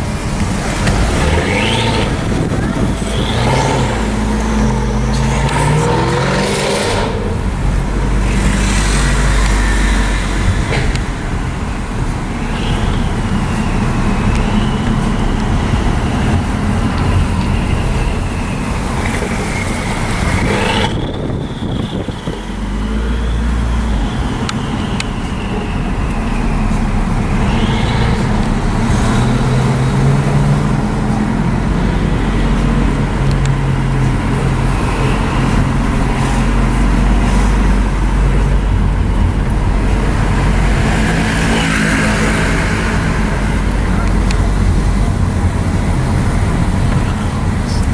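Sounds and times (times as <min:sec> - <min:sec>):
car engines in traffic: 0:00.0 - 0:47.9.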